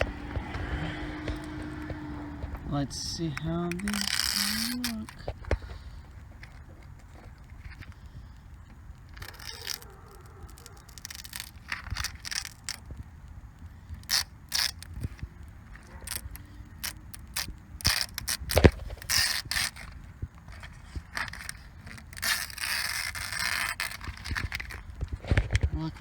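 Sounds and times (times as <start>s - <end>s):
scraping and crinkling handling noises: 0.0s - 13.0s, 13.6s - 26.0s.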